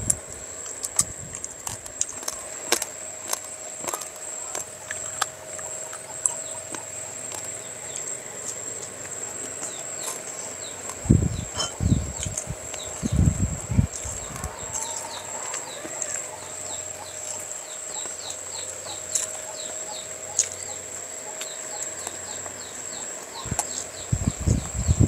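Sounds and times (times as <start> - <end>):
wet chewing and smacking: 0.0 - 11.0, 13.9 - 24.1
steady high-pitched whine: 0.0 - 25.0.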